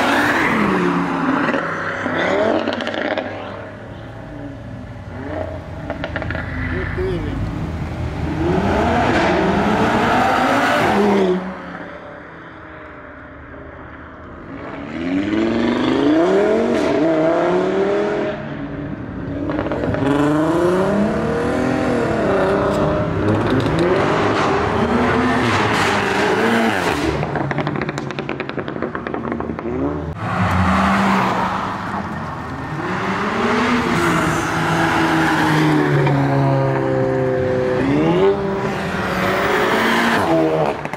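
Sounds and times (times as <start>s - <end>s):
car engines revving through gears: 0.0s - 12.1s, 14.3s - 40.9s.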